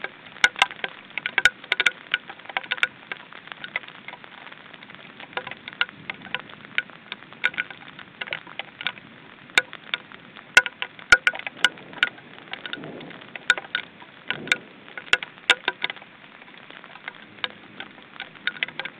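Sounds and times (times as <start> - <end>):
faint steady hiss: 0.0 - 18.9
raindrops ticking close: 0.0 - 18.9.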